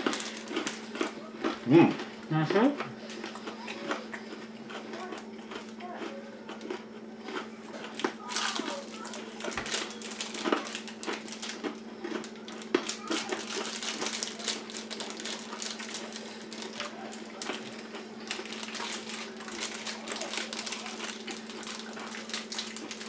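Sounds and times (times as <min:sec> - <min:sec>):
people chewing crunchy candy: 0:00.0 - 0:23.0.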